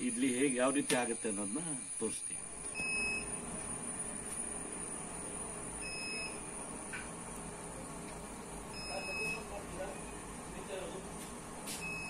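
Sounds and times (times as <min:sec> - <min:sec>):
gas burner hissing: 0:00.0 - 0:12.0.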